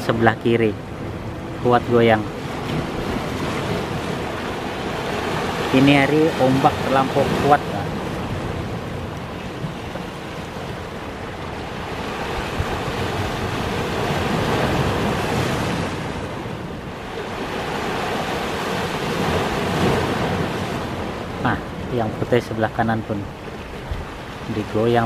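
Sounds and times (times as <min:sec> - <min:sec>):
surf breaking over rocks: 0:00.0 - 0:22.3.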